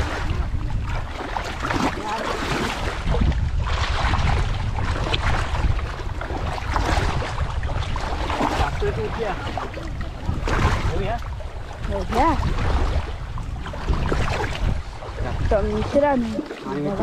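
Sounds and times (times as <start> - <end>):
water splashing and sloshing: 0.0 - 17.0
wind buffeting microphone: 0.0 - 17.0.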